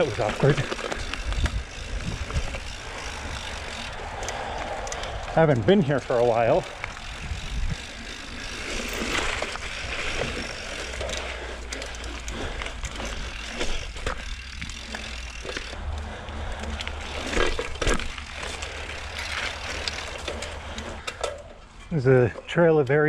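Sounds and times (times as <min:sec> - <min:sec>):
tyres rolling over dirt: 0:00.0 - 0:22.9
bike clicks and rattles: 0:00.0 - 0:23.0.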